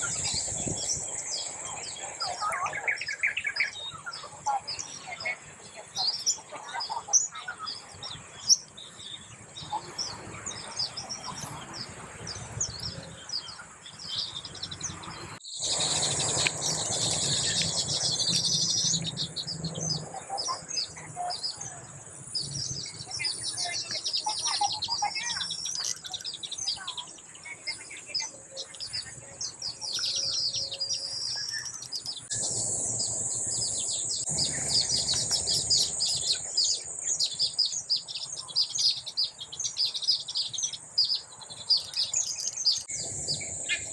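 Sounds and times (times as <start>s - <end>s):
birds chirping rapidly: 0.0s - 43.9s.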